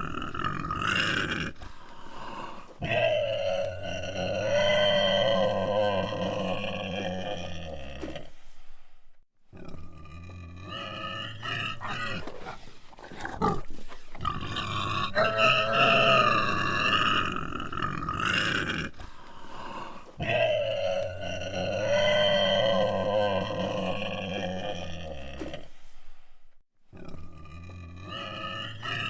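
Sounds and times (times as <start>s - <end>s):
hog squealing and grunting: 0.0s - 1.6s, 2.8s - 8.3s, 9.6s - 19.0s, 20.2s - 25.7s, 27.0s - 29.0s.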